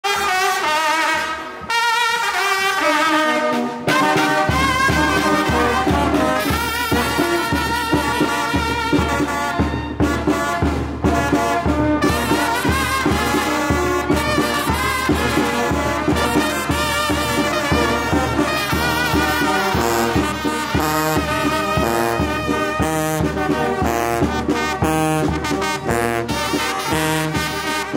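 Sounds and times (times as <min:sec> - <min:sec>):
trumpets and trombone melody: 0:00.0 - 0:27.9
tuba: 0:00.0 - 0:27.9.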